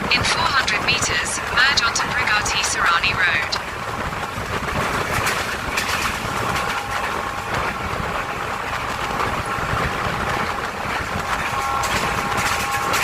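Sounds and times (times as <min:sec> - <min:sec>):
faint steady whine: 0:00.0 - 0:13.0
train rumbling along track: 0:00.0 - 0:13.0.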